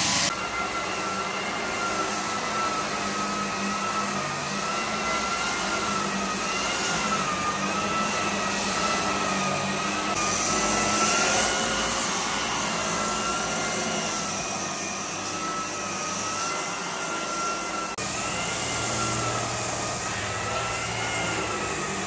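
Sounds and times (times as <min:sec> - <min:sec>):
edge sander motor whine: 0:00.0 - 0:22.0.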